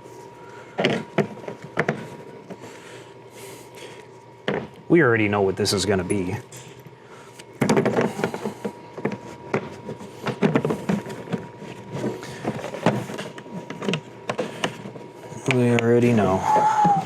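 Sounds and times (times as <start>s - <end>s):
faint steady whine: 0.0s - 17.0s.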